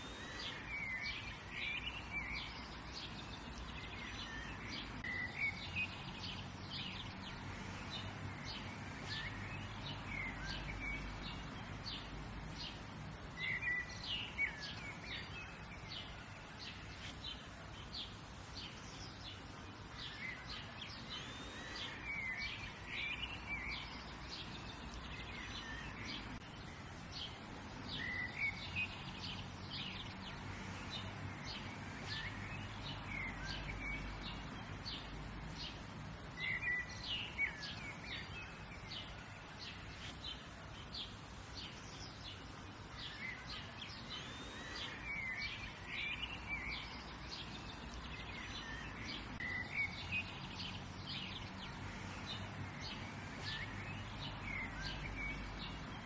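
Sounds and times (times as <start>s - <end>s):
low background hiss: 0.0s - 56.0s
small birds chirping: 0.0s - 56.0s.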